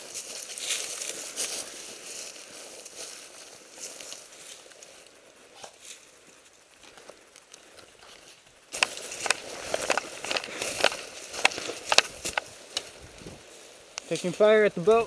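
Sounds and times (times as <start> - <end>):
brush and twigs crackling: 0.0 - 15.0.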